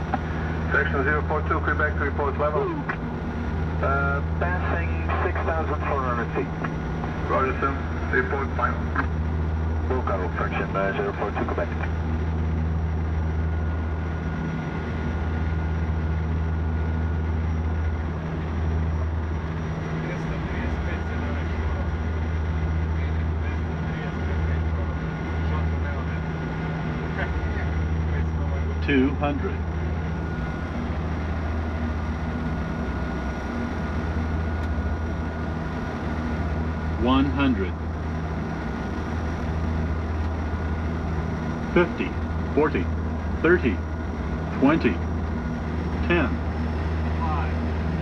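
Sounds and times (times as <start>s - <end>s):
airliner engines droning: 0.0s - 48.0s
faint high whine: 0.0s - 48.0s.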